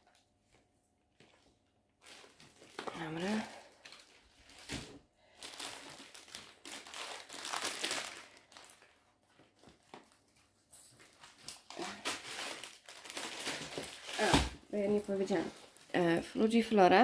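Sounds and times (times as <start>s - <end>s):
plastic film crinkling: 1.1s - 16.6s.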